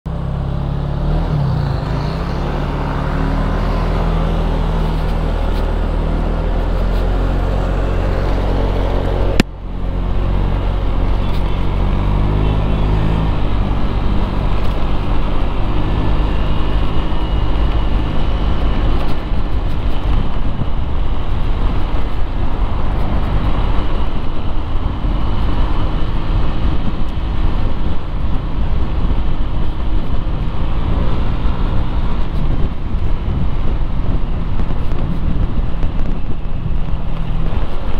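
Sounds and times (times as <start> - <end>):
engine humming steadily: 0.1 - 37.9
rough traffic noise: 0.1 - 37.9.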